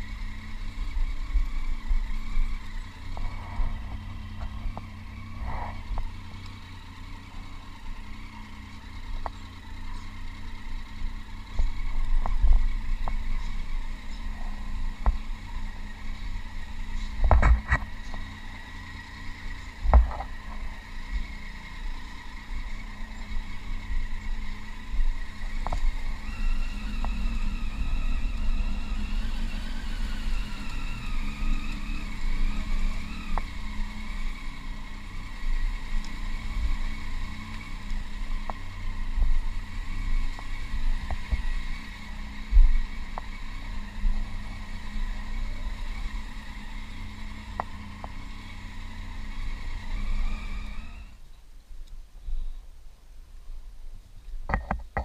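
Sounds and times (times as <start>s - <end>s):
motorcycle engine at low speed: 0.0s - 55.0s.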